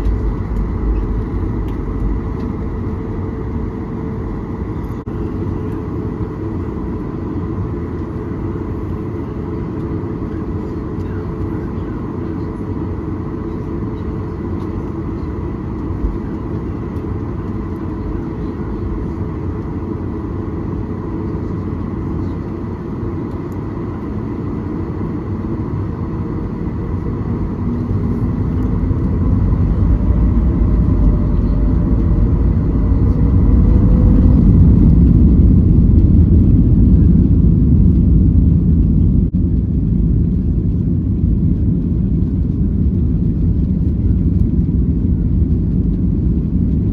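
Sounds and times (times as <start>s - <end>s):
jet engine and airflow rumble: 0.0s - 46.9s.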